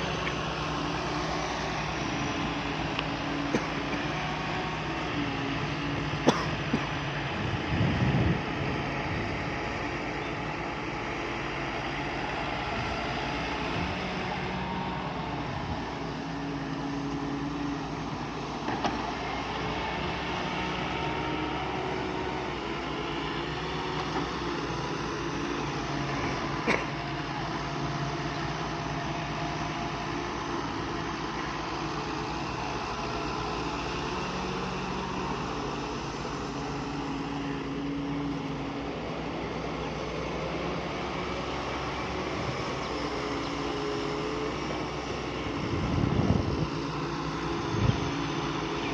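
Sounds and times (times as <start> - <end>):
diesel engine of heavy machinery: 0.0 - 48.9.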